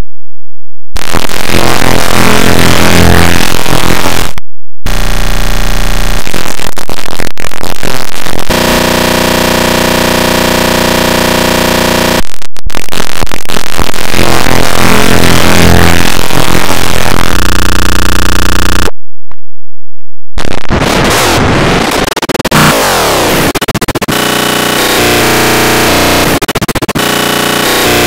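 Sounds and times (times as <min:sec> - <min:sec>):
loud harsh electronic noise: 0:01.0 - 0:19.0, 0:20.4 - 0:28.0.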